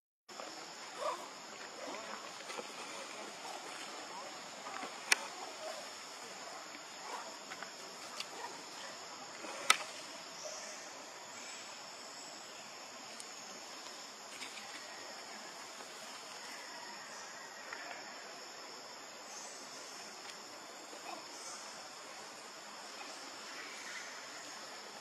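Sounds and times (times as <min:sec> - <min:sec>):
high-pitched insect chorus: 0:00.3 - 0:25.0.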